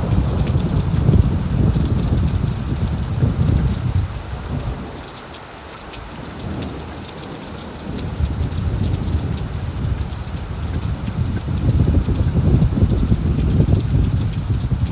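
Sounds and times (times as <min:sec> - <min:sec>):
low thunder rumble: 0:00.0 - 0:05.2, 0:06.0 - 0:14.9
heavy rain on a tin roof: 0:00.0 - 0:14.9.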